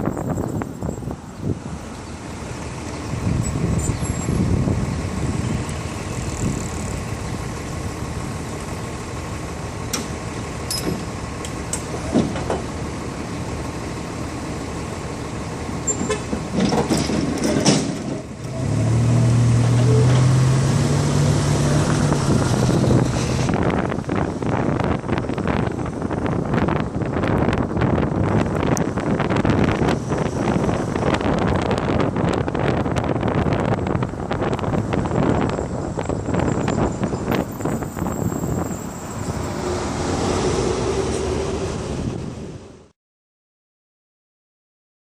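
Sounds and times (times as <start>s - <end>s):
heavy vehicle engine drone: 0.0s - 42.9s
passing vehicles rumble: 0.0s - 42.9s.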